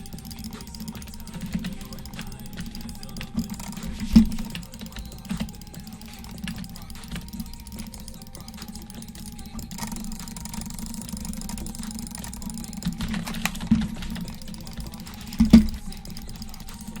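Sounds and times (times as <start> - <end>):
light clicks and taps: 0.0 - 17.0
steady low hum: 0.0 - 17.0.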